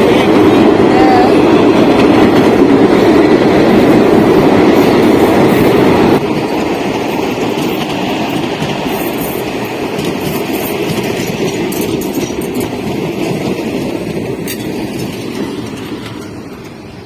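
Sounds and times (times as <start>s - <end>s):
train wheels clickety-clack: 0.0s - 17.0s.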